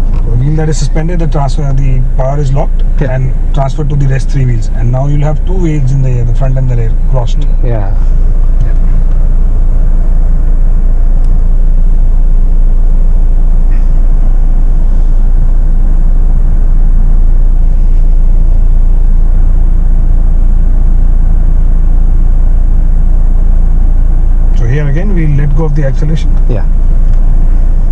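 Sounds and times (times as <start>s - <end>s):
diesel engine low rumble: 0.0s - 27.9s.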